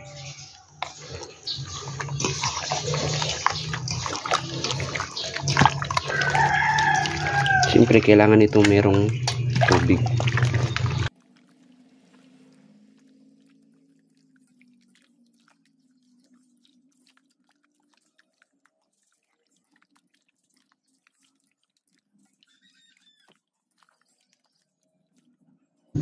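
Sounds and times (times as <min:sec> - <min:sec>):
hand kneading wet chicken: 0:00.8 - 0:11.2, 0:14.4 - 0:26.0.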